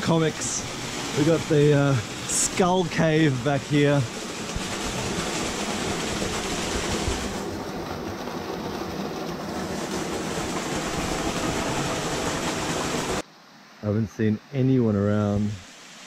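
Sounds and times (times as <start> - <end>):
small waterfall splashing into pool: 0.0 - 13.2.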